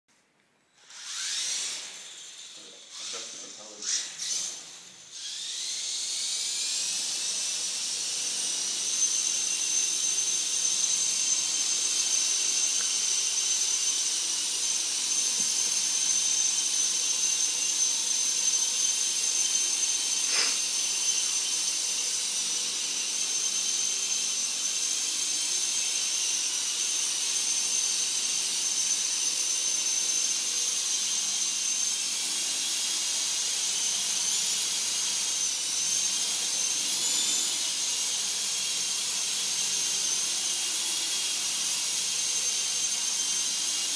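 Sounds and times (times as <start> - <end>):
toy helicopter motor whine: 0.7 - 43.9.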